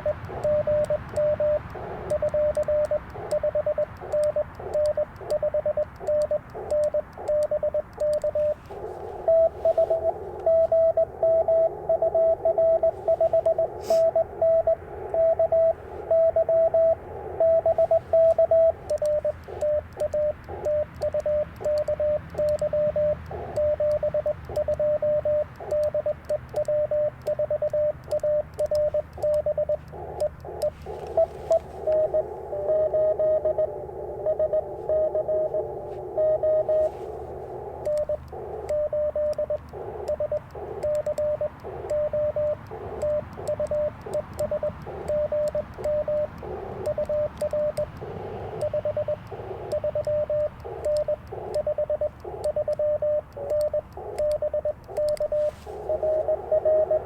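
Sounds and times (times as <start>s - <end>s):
morse code beeps: 0.0s - 57.0s
radio receiver hiss: 0.0s - 57.0s.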